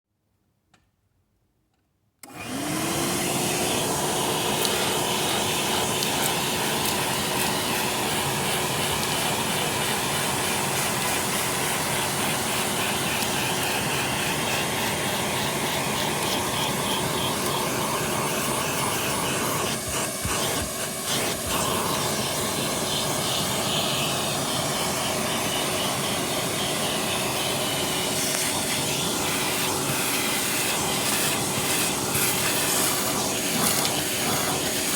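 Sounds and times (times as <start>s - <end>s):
vacuum cleaner motor: 2.2s - 34.9s.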